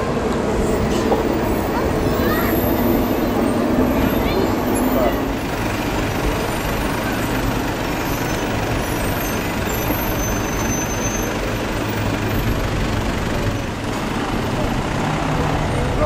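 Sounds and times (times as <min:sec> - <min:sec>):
military vehicles driving past: 0:00.0 - 0:16.0.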